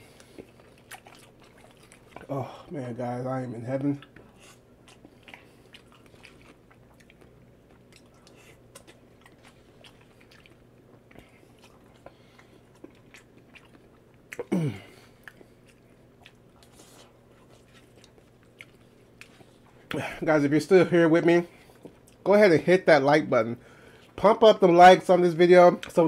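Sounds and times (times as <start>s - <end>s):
man chewing food: 0.0s - 20.3s, 21.2s - 22.3s, 23.6s - 24.2s.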